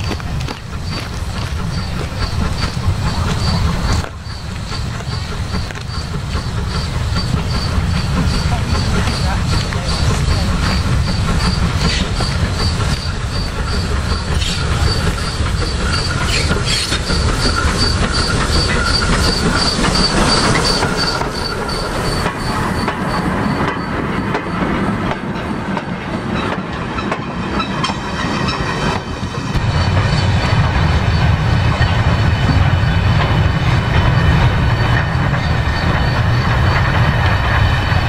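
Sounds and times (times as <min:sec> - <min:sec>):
steam locomotive passing: 0:00.0 - 0:38.0
wheels clicking over rail joints: 0:00.0 - 0:38.0.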